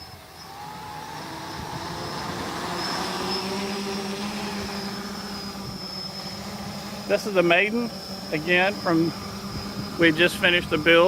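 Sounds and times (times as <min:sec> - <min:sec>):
quadcopter motors humming: 0:00.0 - 0:11.0.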